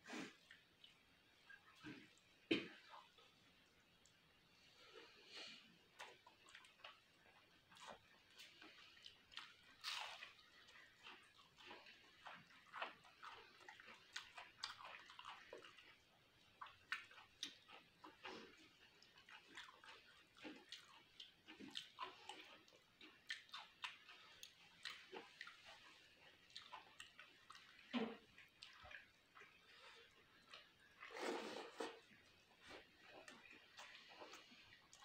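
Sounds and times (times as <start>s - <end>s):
person chewing and lip-smacking: 5.7s - 35.0s.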